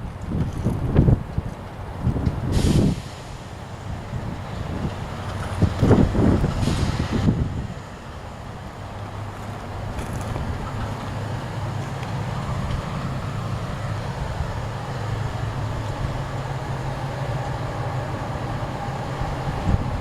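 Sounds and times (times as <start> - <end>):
freight train locomotives rumbling: 0.0 - 20.0.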